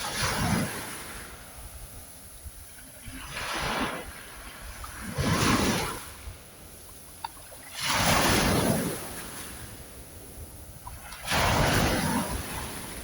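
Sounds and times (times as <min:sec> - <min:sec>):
ocean waves washing in: 0:00.0 - 0:13.0.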